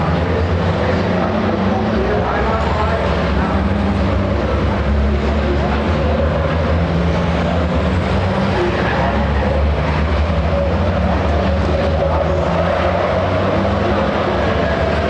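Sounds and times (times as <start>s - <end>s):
diesel truck engines droning: 0.0s - 15.0s.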